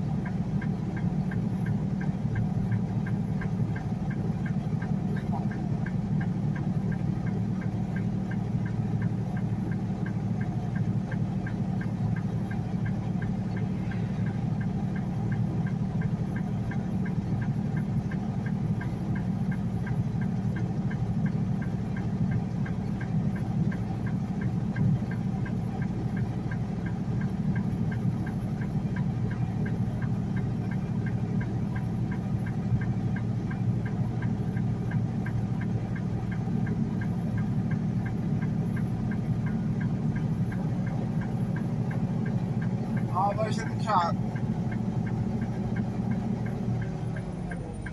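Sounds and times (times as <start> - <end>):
diesel truck engine running: 0.0 - 47.9
light even ticking: 0.1 - 47.9.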